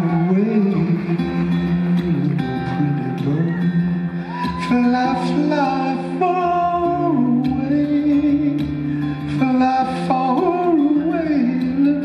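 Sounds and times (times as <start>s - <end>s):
acoustic guitar: 0.0s - 12.0s
man singing without words: 0.0s - 12.0s.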